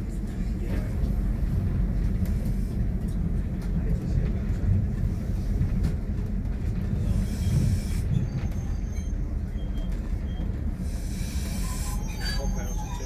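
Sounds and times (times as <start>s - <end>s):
diesel engine rumble: 0.0s - 13.0s
train wheels on track: 0.0s - 13.0s.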